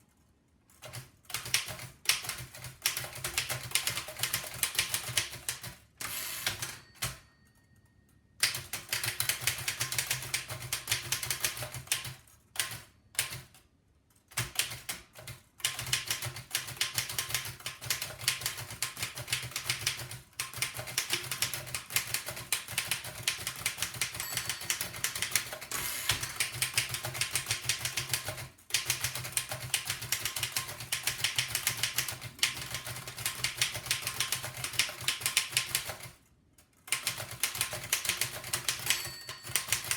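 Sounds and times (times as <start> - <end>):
typewriter keys clattering: 0.7 - 5.8, 8.4 - 13.6, 14.3 - 36.2, 36.8 - 39.9.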